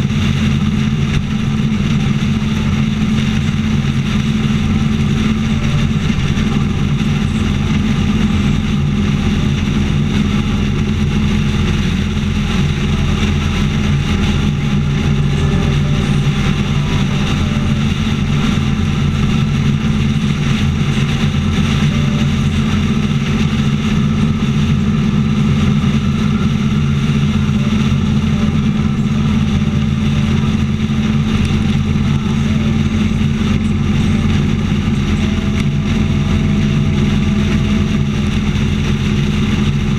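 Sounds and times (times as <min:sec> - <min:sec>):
motorcycle engine cruising: 0:00.0 - 0:39.9
road noise: 0:00.0 - 0:39.9
wind rush: 0:00.0 - 0:39.9.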